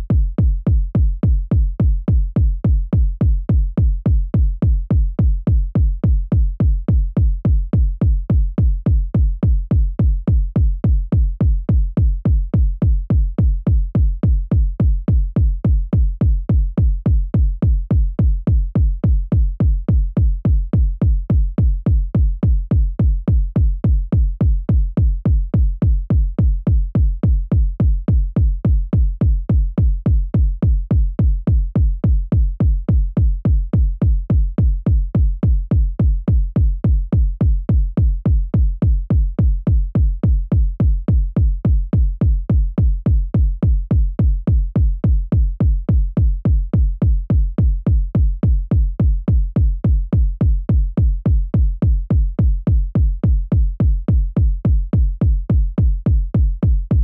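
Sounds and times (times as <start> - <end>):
music with deep drum beat: 0.0 - 57.0.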